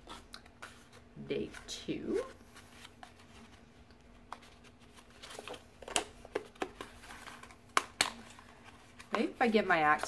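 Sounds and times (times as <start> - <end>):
paper and card rustling: 0.0 - 10.0.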